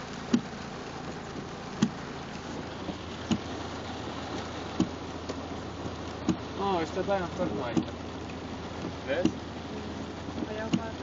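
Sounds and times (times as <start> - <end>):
car cabin hum and hiss: 0.0 - 11.0
windshield wipers thumping: 0.0 - 11.0.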